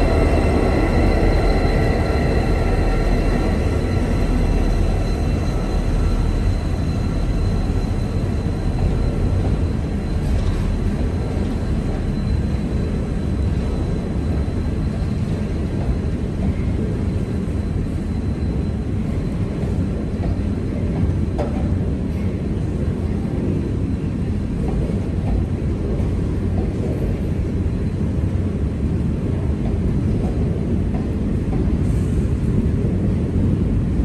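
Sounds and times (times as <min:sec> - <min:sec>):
locomotive tones: 0:00.0 - 0:32.5
train wheels rumbling on rail: 0:00.0 - 0:34.0.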